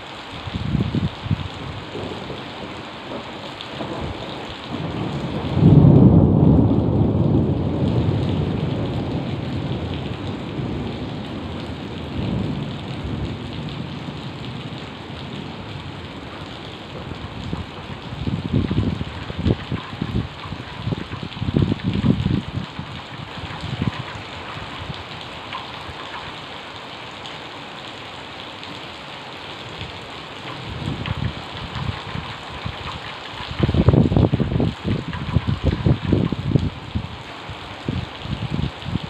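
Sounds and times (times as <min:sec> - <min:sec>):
heavy rain: 0:00.0 - 0:39.0
thunderclap rumbling: 0:00.6 - 0:26.4, 0:30.5 - 0:37.1.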